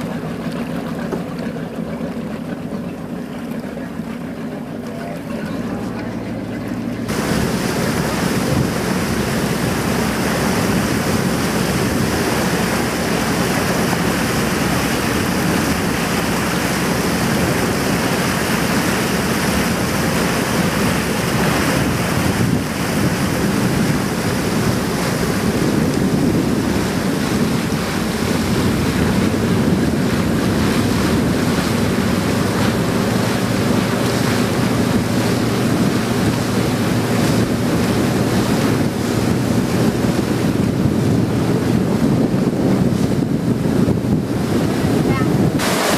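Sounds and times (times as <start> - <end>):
boat engine humming: 0.0 - 45.9
water rushing along hull: 0.0 - 45.9
wind on microphone: 4.9 - 45.9.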